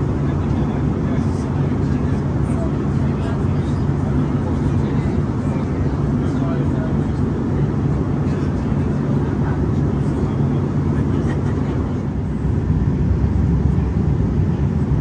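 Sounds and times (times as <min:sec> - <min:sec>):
airliner cabin noise: 0:00.0 - 0:15.0.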